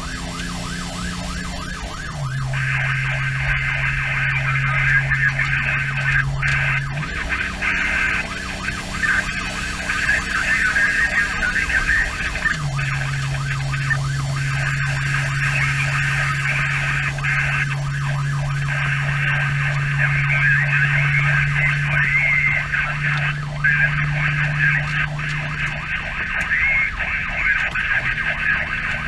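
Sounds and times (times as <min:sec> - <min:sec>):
fire engine siren yelping: 0:00.0 - 0:29.0
truck engine drone: 0:00.0 - 0:29.0.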